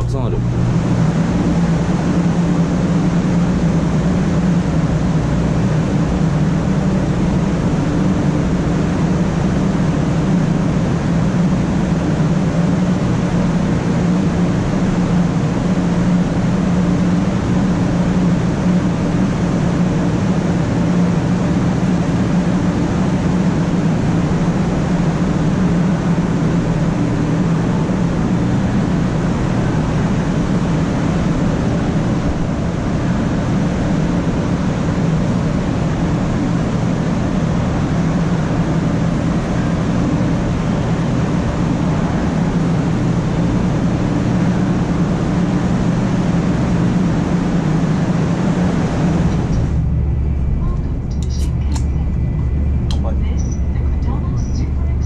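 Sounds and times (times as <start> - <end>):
low train cabin hum: 0.0 - 55.0.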